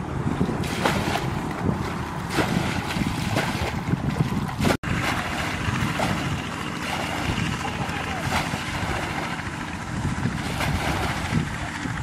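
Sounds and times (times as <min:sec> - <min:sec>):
water splashing and sloshing: 0:00.0 - 0:12.0
wind buffeting microphone: 0:00.0 - 0:12.0.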